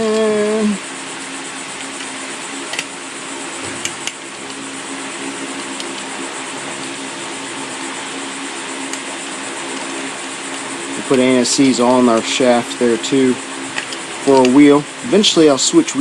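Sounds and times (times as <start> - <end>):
steady hiss and hum: 0.0 - 16.0.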